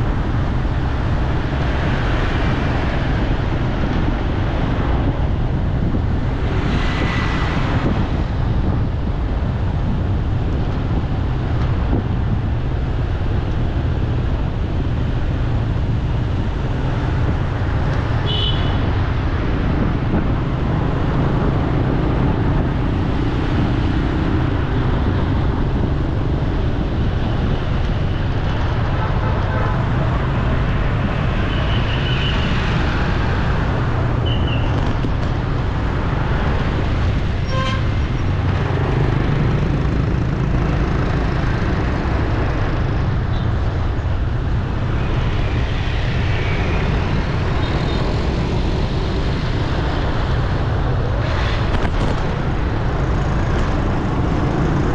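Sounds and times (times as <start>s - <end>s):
street traffic noise: 0.0s - 54.9s
wind rumbling on microphone: 0.0s - 54.9s.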